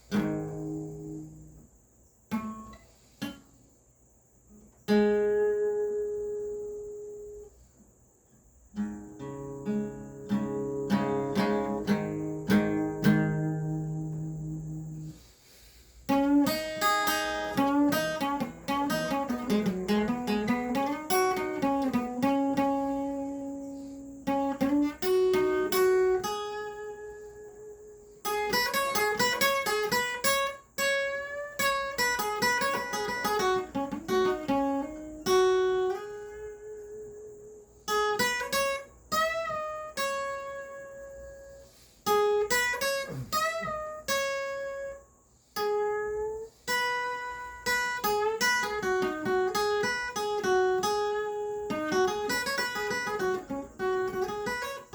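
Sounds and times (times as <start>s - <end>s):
acoustic guitar: 0.0s - 1.7s, 2.3s - 3.7s, 4.5s - 54.9s.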